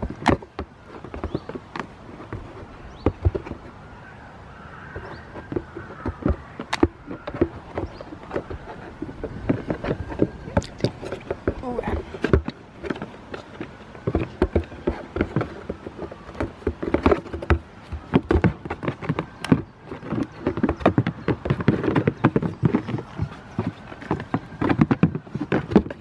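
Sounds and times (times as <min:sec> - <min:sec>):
goat hooves knocking on plastic tubs: 0:00.0 - 0:04.1, 0:04.7 - 0:26.0.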